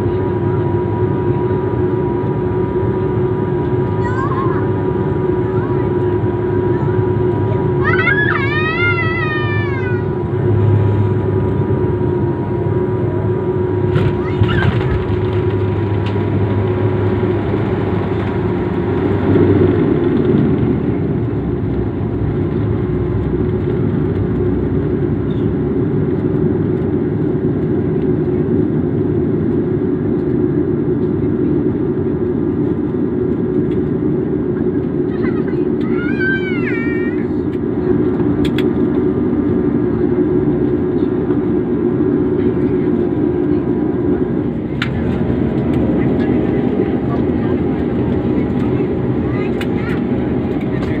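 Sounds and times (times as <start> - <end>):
airliner cabin engine hum: 0.0 - 51.0.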